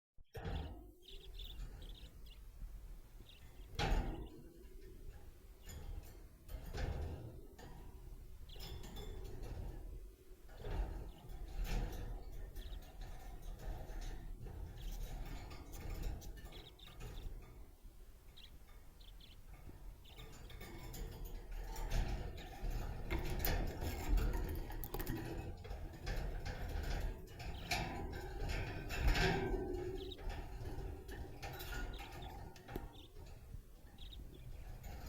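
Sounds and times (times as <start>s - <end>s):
budgies chirping and chattering: 0.3s - 17.6s, 18.2s - 35.0s.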